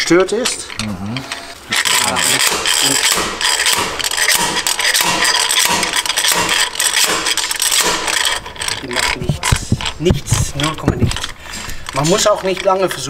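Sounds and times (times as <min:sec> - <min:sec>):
slide hammer metallic clanks: 0:01.7 - 0:13.0.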